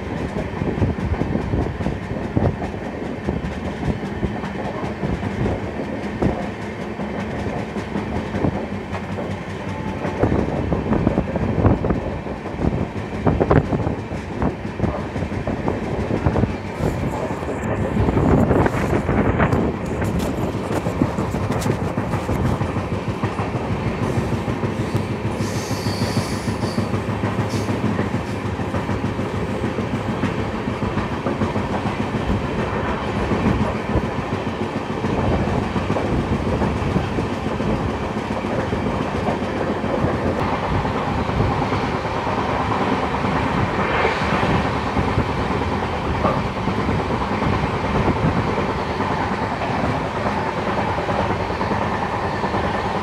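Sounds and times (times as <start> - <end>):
moving coaches rumbling: 0.0 - 53.0
train wheels clattering: 0.0 - 53.0.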